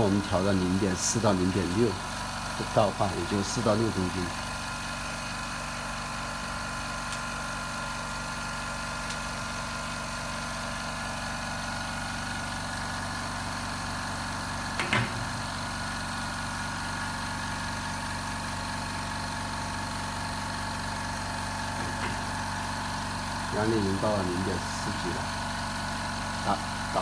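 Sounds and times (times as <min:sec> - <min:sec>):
air compressor running: 0:00.0 - 0:27.0.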